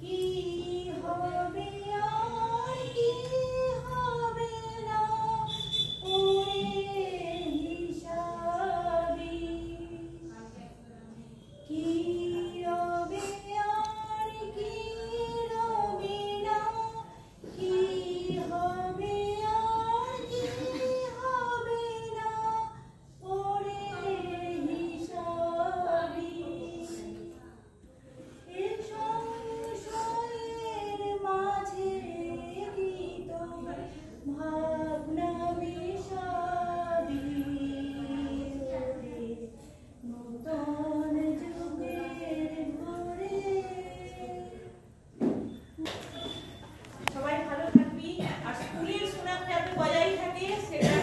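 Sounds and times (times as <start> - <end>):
woman singing unaccompanied: 0.0 - 10.7, 11.6 - 27.6, 28.4 - 45.0.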